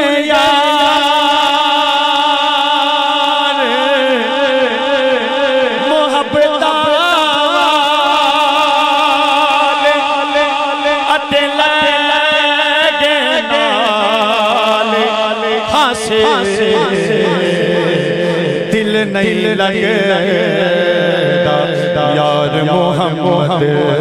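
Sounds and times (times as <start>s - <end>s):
man singing melismatic notes: 0.0s - 24.0s.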